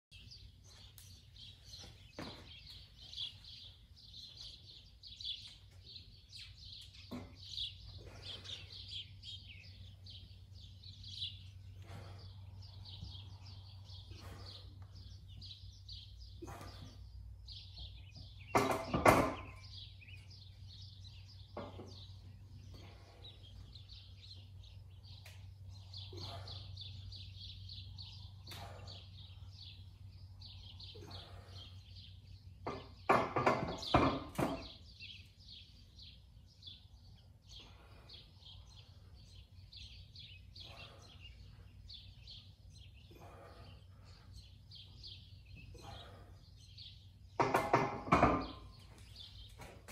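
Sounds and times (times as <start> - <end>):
birds chirping: 0.1 - 49.9.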